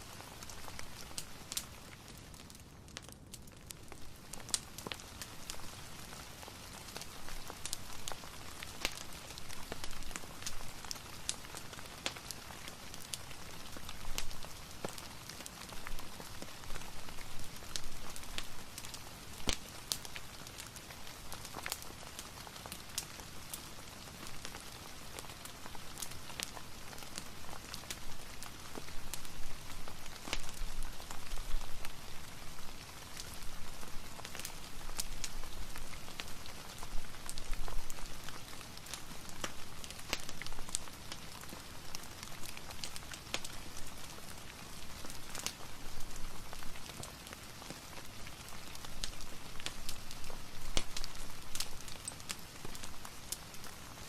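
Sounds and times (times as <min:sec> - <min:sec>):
fireplace crackling: 0:00.0 - 0:54.0
steady rain: 0:00.0 - 0:54.0.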